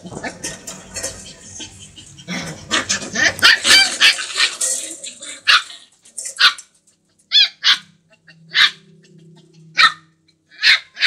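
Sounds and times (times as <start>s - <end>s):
puppies yapping and barking: 0.1s - 11.0s.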